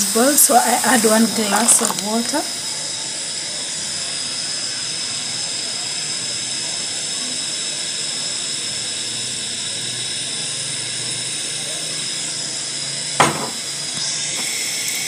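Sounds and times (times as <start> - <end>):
stove hissing: 0.0 - 15.0.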